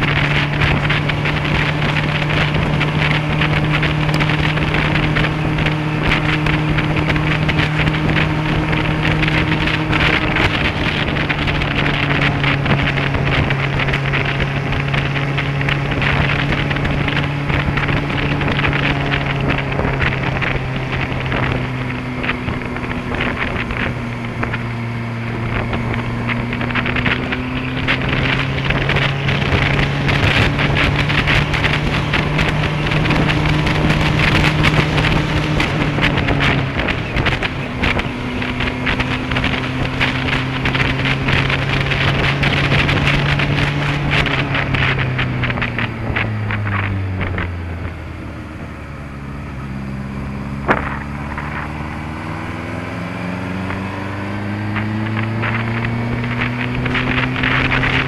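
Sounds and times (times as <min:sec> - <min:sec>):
motorcycle engine cruising: 0:00.0 - 0:58.0
wind rush on microphone: 0:00.0 - 0:58.0.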